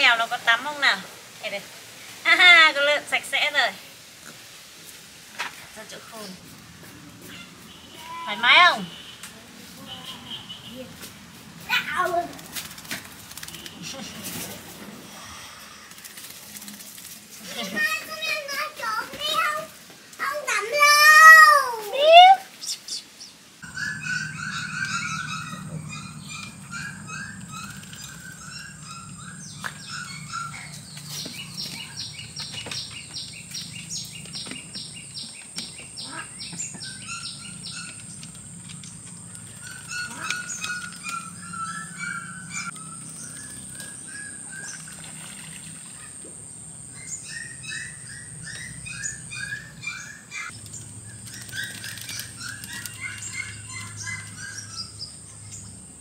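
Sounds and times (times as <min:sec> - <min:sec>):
birds chirping: 0:05.6 - 0:16.8, 0:17.5 - 0:56.0.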